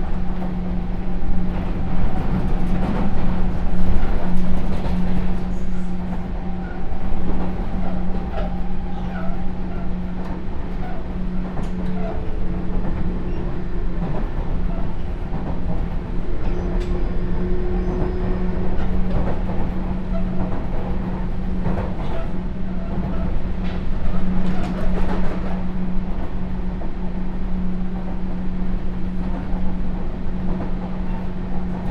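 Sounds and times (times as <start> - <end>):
electric train humming: 0.0 - 31.9.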